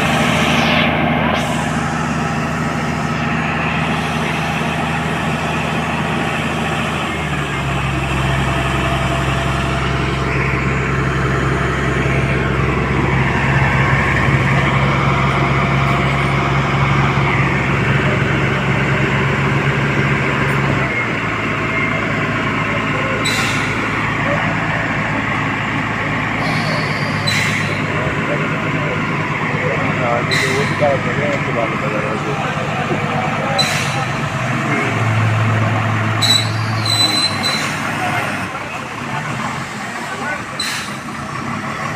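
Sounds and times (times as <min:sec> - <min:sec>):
dump truck diesel engine revving: 0:00.0 - 0:41.9.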